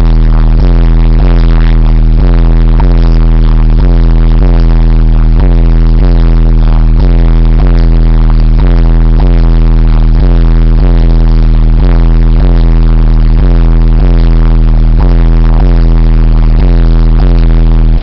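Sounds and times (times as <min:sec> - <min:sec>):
distorted bass-heavy music: 0:00.0 - 0:18.0.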